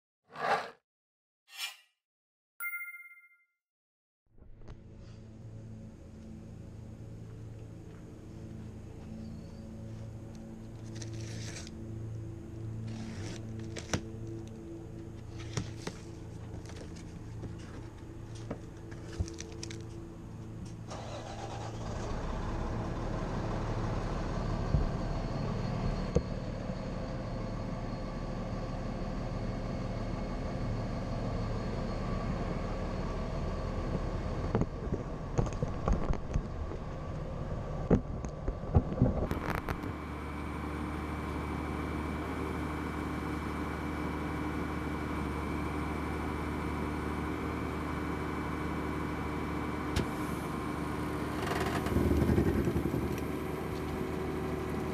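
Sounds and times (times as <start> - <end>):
engine running: 4.5 - 54.9.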